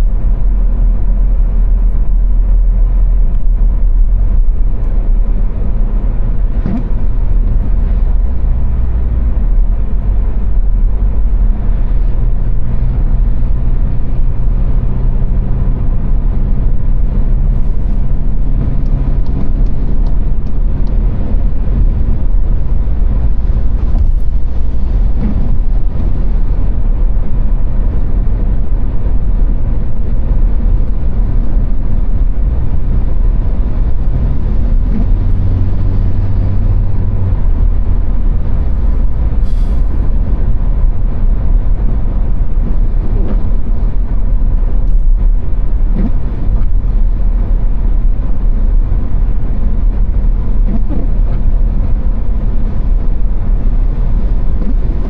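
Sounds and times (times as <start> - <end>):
car road and engine rumble: 0.0 - 55.0
low engine hum: 0.0 - 55.0.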